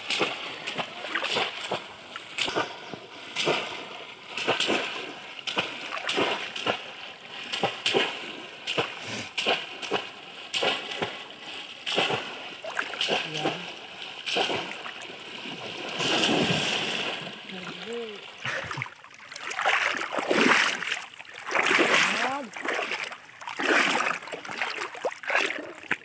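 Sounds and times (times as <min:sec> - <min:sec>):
basket traps splashing in water: 0:00.0 - 0:26.0
legs wading through water: 0:00.0 - 0:26.0.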